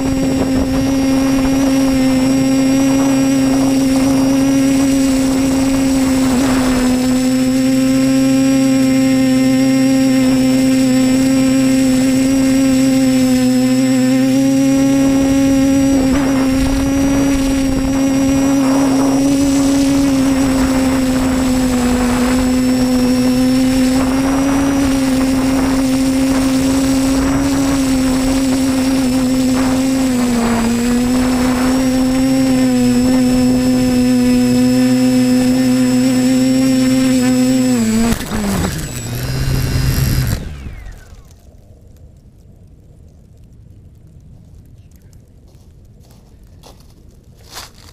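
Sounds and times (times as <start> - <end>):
quadcopter propellers buzzing: 0.0 - 41.5.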